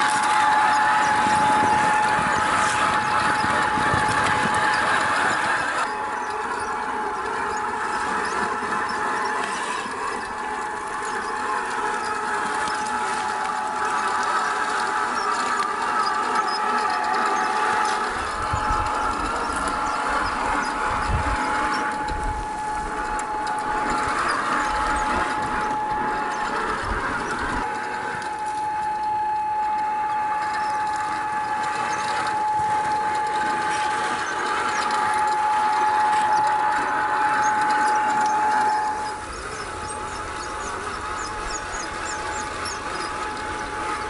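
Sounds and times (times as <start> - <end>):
toy car electric motor whining: 0.0 - 44.0.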